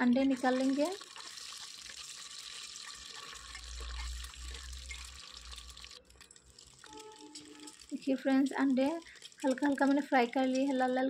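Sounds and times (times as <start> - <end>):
eggs sizzling in oil: 0.0 - 11.0.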